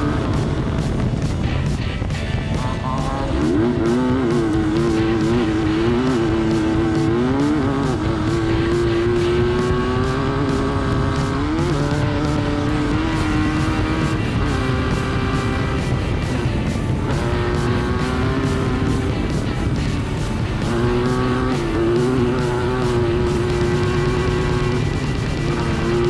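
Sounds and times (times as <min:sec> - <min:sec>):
dense rumble: 0:00.0 - 0:26.0
engine revving under load: 0:00.0 - 0:26.0.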